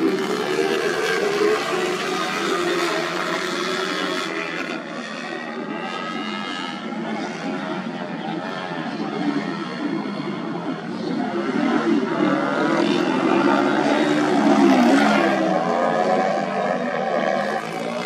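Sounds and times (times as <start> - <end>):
motorcycle engines revving hard: 0.0 - 18.0.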